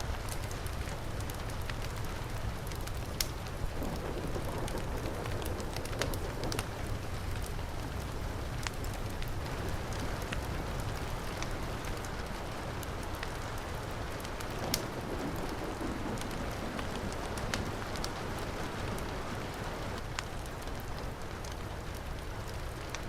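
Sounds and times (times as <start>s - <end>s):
heavy rain falling: 0.0s - 23.0s
wood fire crackling: 0.0s - 23.0s.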